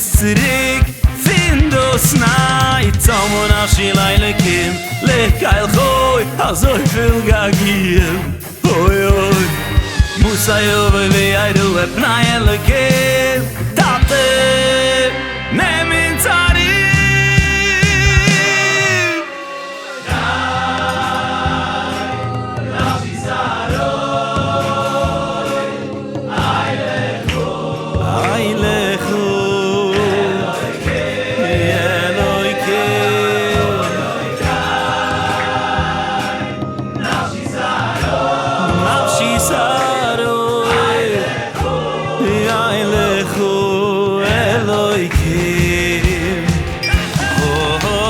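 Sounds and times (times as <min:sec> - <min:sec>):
instrumental backing music: 0:00.0 - 0:48.0
male choir singing: 0:00.0 - 0:48.0.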